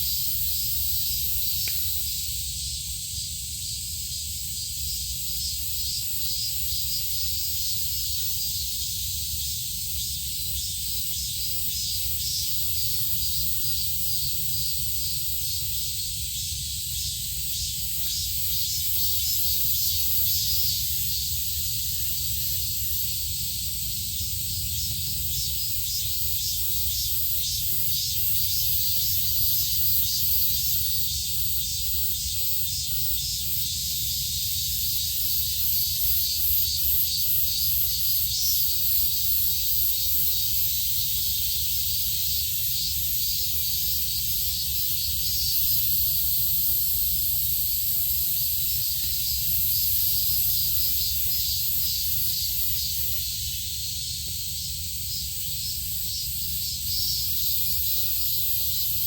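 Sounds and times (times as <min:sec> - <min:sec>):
insects shrill chorus: 0:00.0 - 0:59.0.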